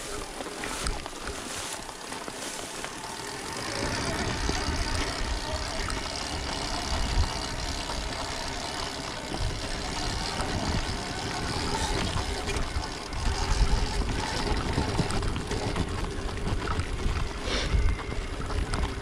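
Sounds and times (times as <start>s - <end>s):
electric dirt bike running: 0.0s - 19.0s
wind buffeting microphone: 3.5s - 19.0s.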